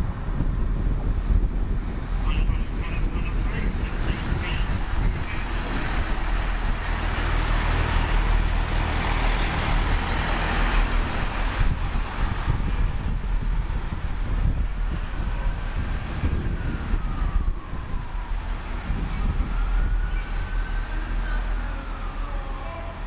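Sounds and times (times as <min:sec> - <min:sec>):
diesel engines humming: 0:00.0 - 0:23.0.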